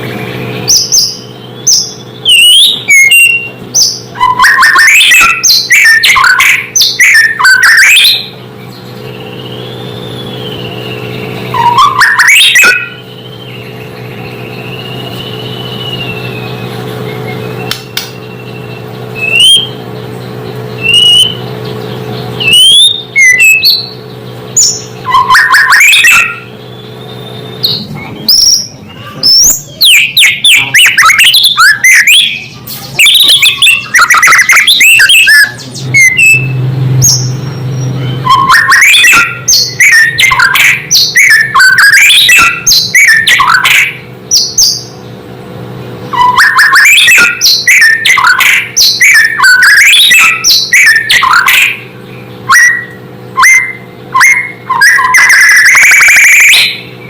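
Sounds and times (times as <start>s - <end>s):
songbird whistling and chattering: 0.0s - 45.1s, 46.1s - 57.0s.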